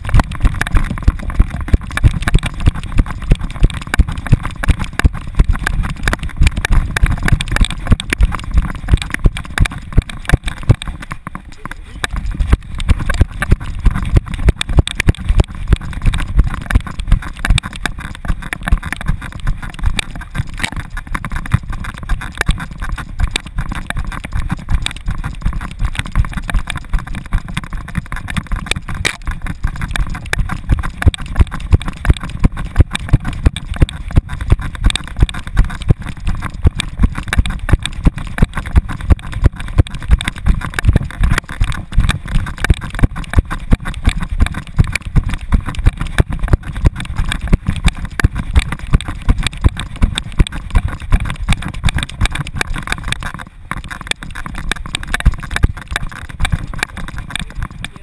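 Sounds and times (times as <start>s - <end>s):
dog stride thumps: 0.0s - 58.0s
wind and movement rumble: 0.0s - 58.0s.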